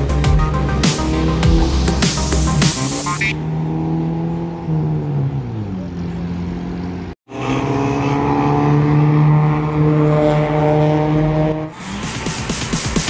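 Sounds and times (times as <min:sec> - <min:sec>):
vehicle engine at high revs: 0:00.0 - 0:13.0.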